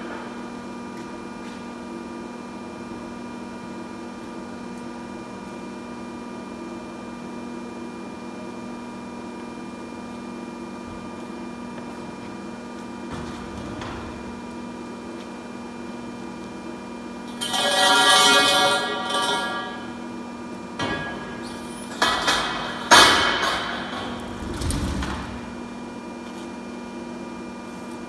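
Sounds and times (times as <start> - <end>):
pipe-bending machine humming: 0.0 - 27.7.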